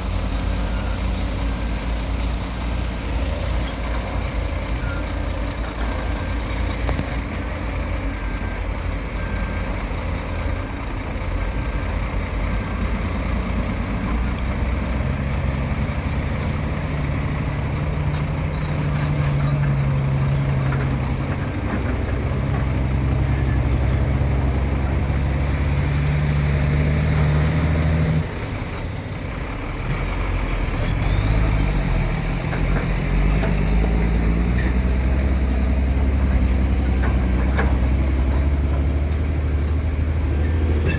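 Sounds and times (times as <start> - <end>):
diesel machinery engine: 0.0 - 40.9.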